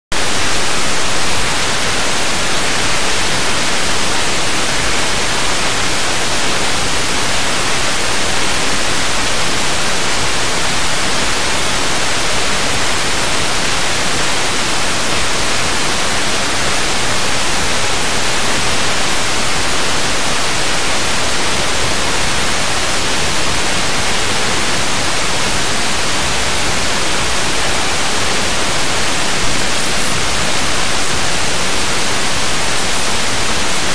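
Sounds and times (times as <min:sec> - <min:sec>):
radio static hiss: 0:00.1 - 0:33.9.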